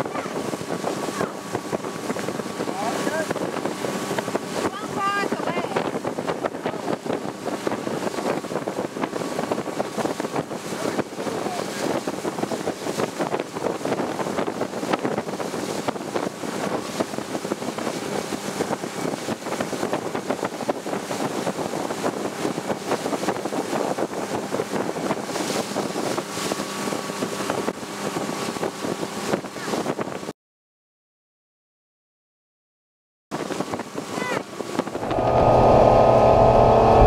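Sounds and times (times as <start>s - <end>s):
wake rushing: 0.0s - 29.7s, 33.4s - 37.0s
motorboat engine running: 0.0s - 30.3s, 33.4s - 37.0s
wind buffeting microphone: 0.0s - 30.3s, 33.4s - 37.0s.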